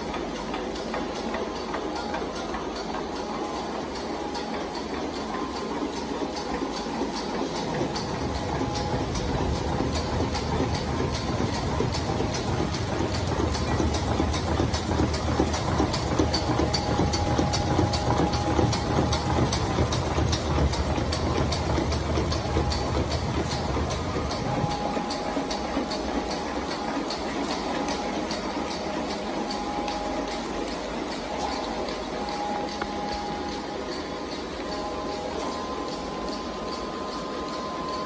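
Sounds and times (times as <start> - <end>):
machine clatter: 0.0 - 38.0.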